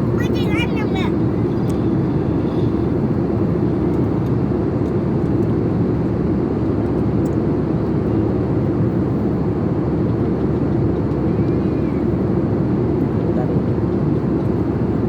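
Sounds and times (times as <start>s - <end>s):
airplane engine rumble in cabin: 0.0s - 15.0s.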